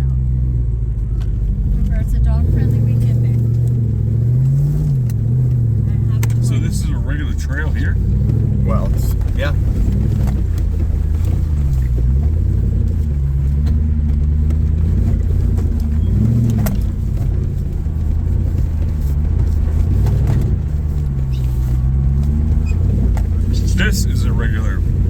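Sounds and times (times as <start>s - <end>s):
jeep engine running: 0.0s - 25.0s.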